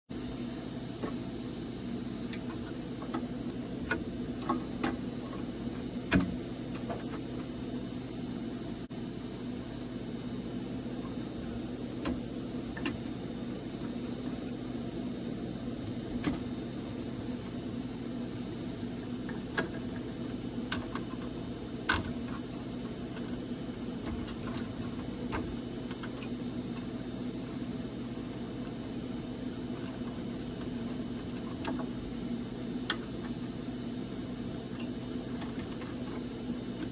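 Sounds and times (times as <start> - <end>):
low machine hum: 0.1 - 36.9.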